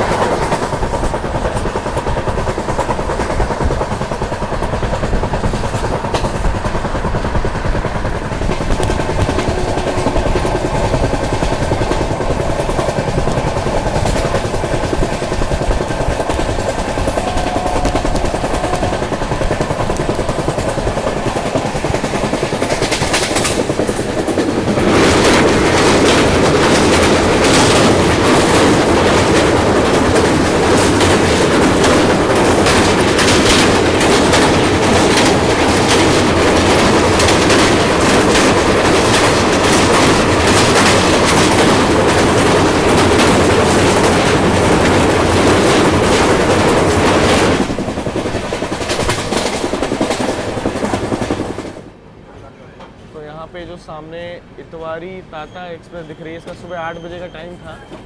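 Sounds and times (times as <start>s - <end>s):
train rumble and wheel clatter: 0.0s - 58.0s.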